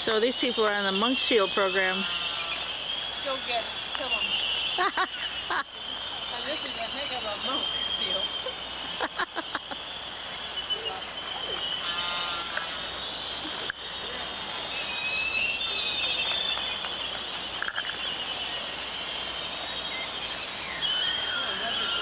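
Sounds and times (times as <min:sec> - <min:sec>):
hose spraying water: 0:00.0 - 0:09.8, 0:10.8 - 0:22.0
seabirds chirping and calling: 0:00.0 - 0:22.0.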